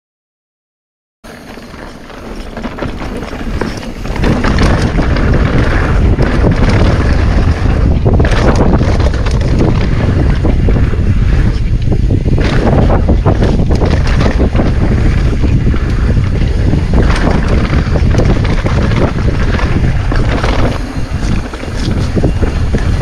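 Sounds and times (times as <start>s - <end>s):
bicycle tyre noise: 1.2s - 23.0s
bike rattling over rough ground: 1.3s - 23.0s
wind buffeting microphone: 1.4s - 23.0s.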